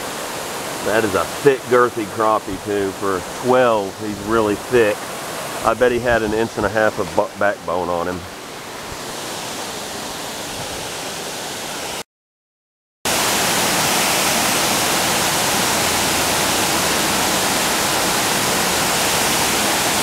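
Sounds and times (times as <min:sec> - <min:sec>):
water rushing over dam spillway: 0:00.0 - 0:12.0, 0:13.1 - 0:20.0.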